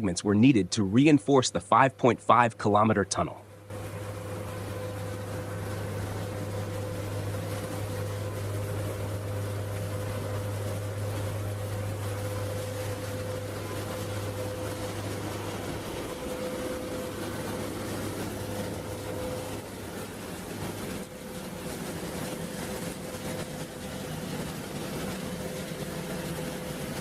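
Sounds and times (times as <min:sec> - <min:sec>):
faint steady whine: 0:00.0 - 0:27.0
low machine hum: 0:00.0 - 0:27.0.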